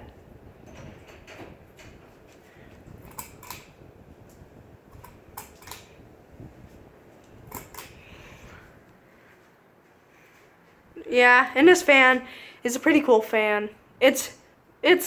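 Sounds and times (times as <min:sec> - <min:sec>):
ceiling fan rumbling: 0:00.0 - 0:15.0.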